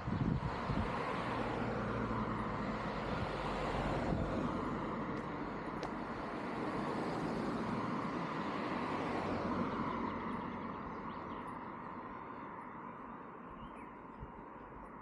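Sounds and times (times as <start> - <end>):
vehicle passing: 0.2 - 13.1.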